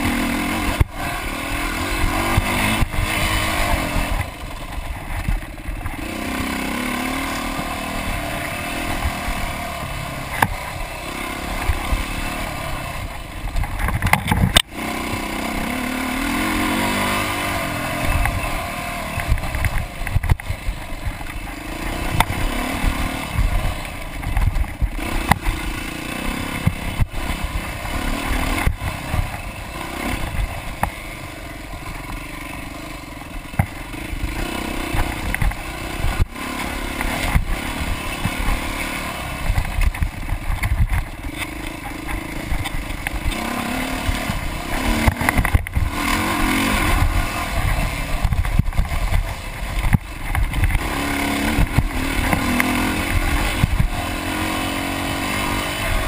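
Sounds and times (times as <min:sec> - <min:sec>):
dirt bike engine revving: 0:00.0 - 0:56.0
knocks and rattles over bumps: 0:00.0 - 0:56.0.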